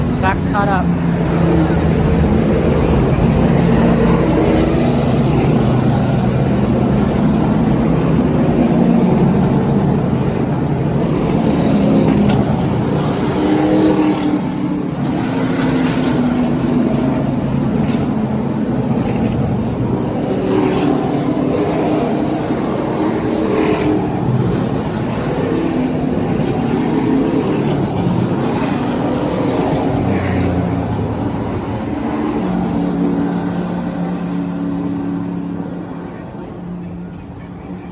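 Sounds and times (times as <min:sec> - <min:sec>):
stock car engines passing: 0:00.0 - 0:37.9.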